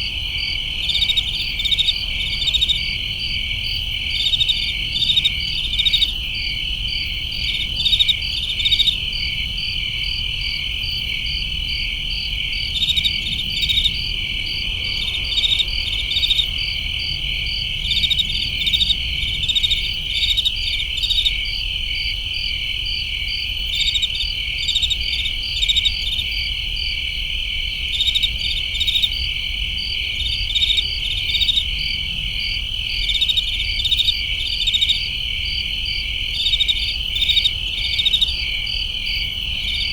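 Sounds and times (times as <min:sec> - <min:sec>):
crickets trilling: 0:00.0 - 0:39.9
short bursts of cricket chirps: 0:00.0 - 0:39.9.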